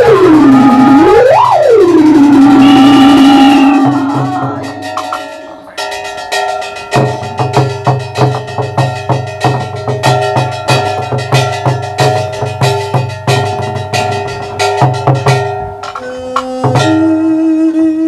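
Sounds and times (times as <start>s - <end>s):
drums: 0.0s - 18.0s
ringing metal percussion: 1.8s - 17.4s.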